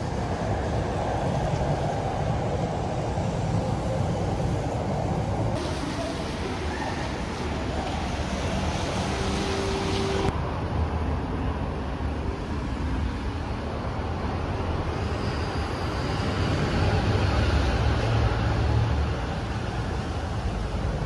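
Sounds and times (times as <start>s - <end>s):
low rumble of passing vehicles: 0.0s - 21.0s.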